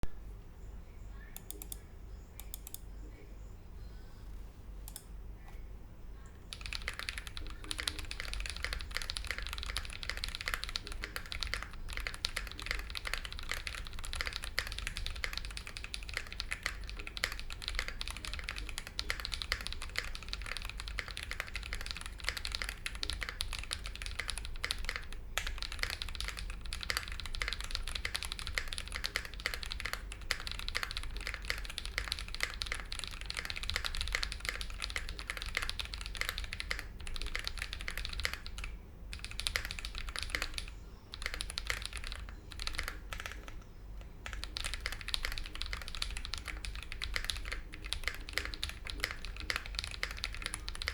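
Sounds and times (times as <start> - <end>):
fast typing on mechanical keyboard: 6.5 - 50.9.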